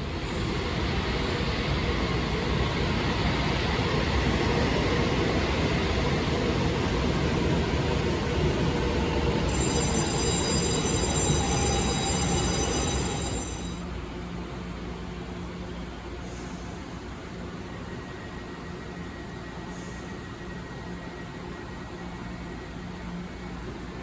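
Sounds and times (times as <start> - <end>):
train rumbling through station: 0.0 - 24.0.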